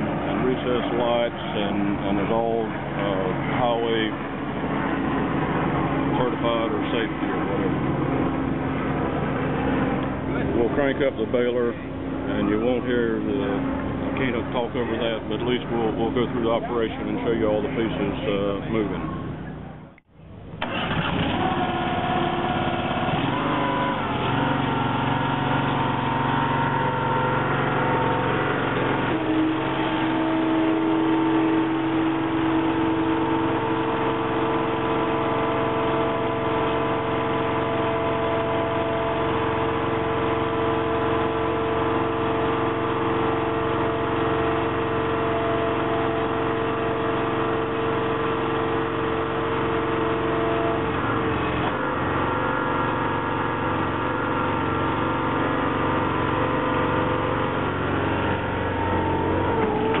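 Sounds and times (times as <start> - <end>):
engine droning: 0.0 - 60.0
hydraulic pump whining: 0.0 - 60.0.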